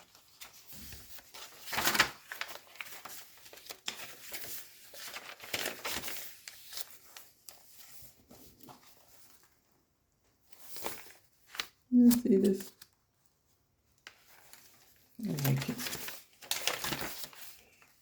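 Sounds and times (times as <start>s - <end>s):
page turns: 0.0s - 9.6s, 10.5s - 13.0s, 14.0s - 18.0s
paper pages rustling: 0.0s - 18.0s.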